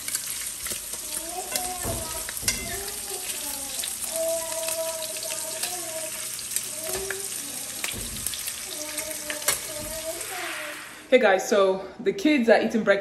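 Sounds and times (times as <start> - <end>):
bacon sizzling in a frying pan: 0.0 - 11.2.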